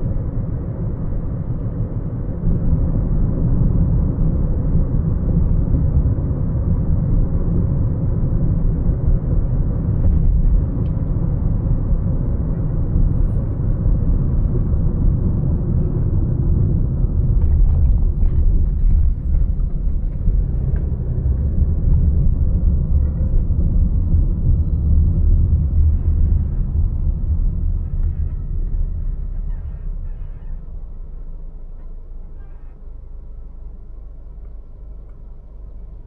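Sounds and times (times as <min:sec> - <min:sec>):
car driving rumble: 0:00.0 - 0:36.0.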